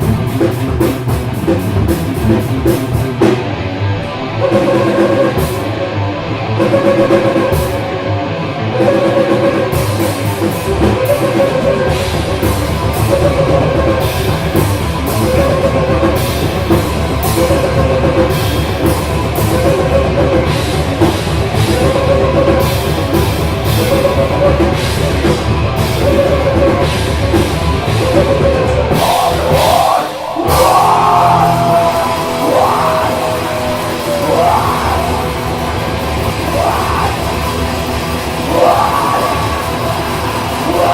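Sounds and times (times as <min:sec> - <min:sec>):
drum kit: 0:00.0 - 0:40.9
electric guitar riff: 0:00.0 - 0:40.9
guitar sliding bending notes: 0:00.0 - 0:40.9.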